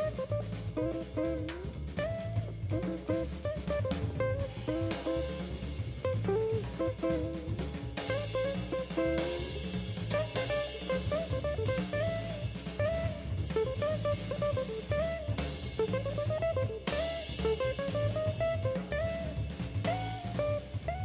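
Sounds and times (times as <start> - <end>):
drum kit steady beat: 0.0 - 21.0
instrumental background music: 0.0 - 21.0.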